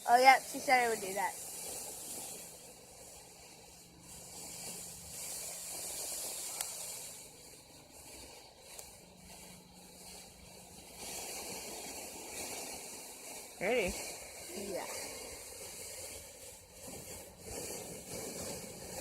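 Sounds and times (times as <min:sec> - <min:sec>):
firework hissing: 0:00.0 - 0:19.0.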